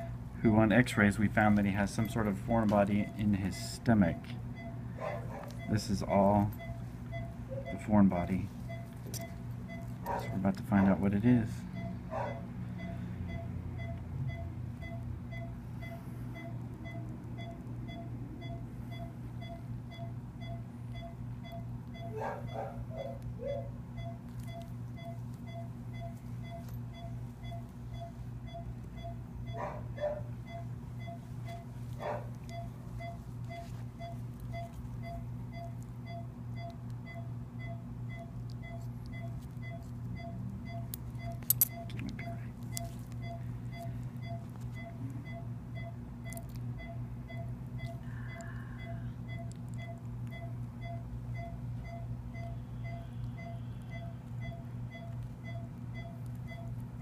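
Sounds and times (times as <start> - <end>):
electrical hum: 0.0 - 57.0
monitor beeping: 0.0 - 57.0.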